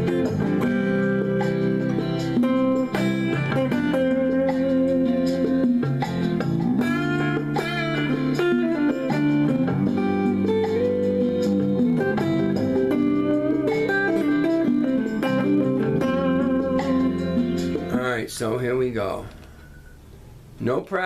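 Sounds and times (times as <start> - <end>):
slow band music with electric guitar: 0.0 - 18.0.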